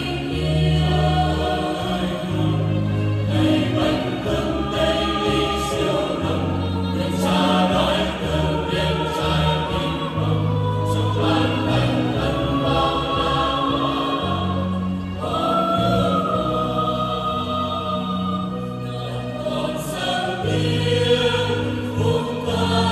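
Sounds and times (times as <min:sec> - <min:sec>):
mixed choir singing a hymn: 0:00.0 - 0:22.9.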